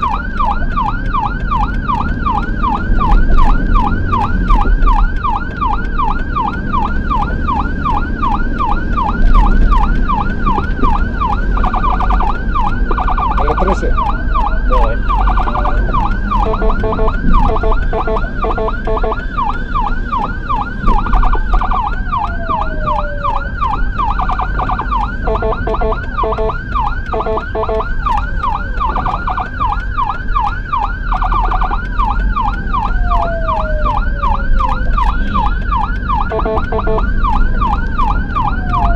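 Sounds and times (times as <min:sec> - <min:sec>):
ambulance siren yelping: 0:00.0 - 0:38.9
engine and road rumble: 0:00.0 - 0:38.9.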